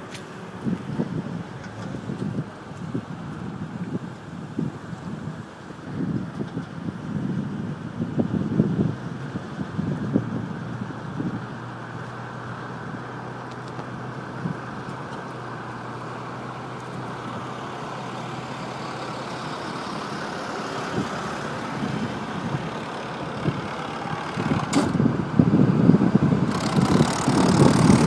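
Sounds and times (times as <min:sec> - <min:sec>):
vehicle and road noise: 0:00.0 - 0:28.0.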